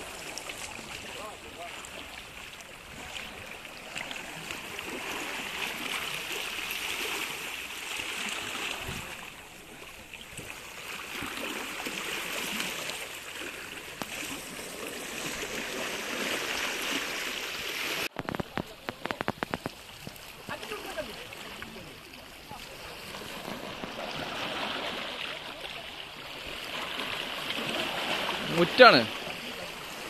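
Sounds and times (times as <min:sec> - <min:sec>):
waves washing against rocks: 0:00.0 - 0:30.0.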